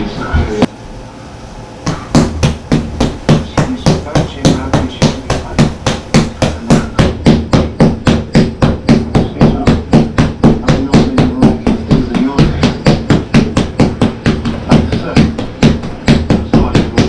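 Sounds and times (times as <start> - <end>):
punches landing on punching bag: 1.9 - 17.0.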